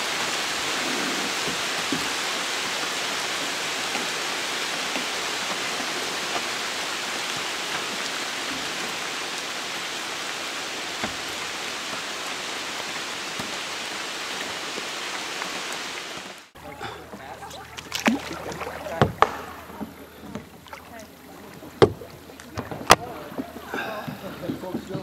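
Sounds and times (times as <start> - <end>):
heavy rain on water: 0.0 - 25.0.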